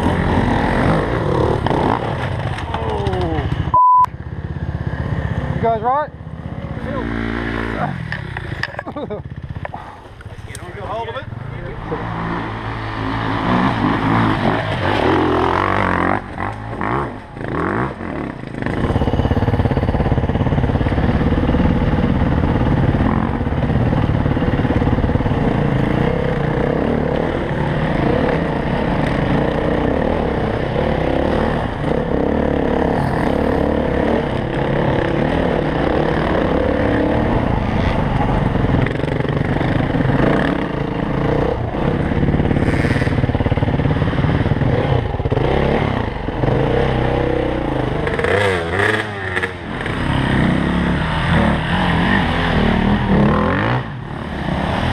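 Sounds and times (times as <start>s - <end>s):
dirt bike engine revving: 0.0s - 2.7s, 4.4s - 9.9s, 11.0s - 54.9s.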